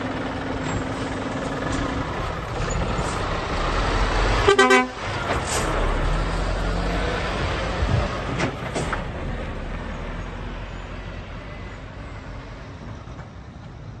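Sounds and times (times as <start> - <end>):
truck diesel engine pulling away: 0.0 - 14.0.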